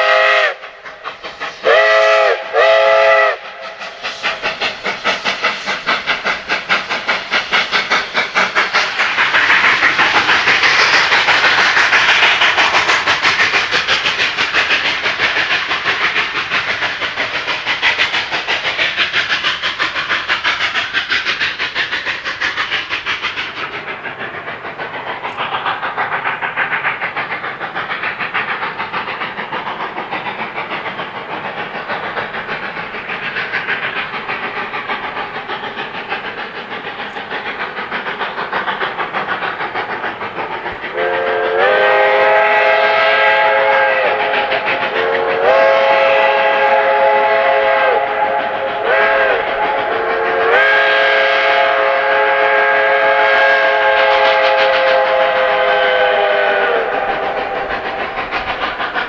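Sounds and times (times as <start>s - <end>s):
train rolling by: 0.0s - 59.0s.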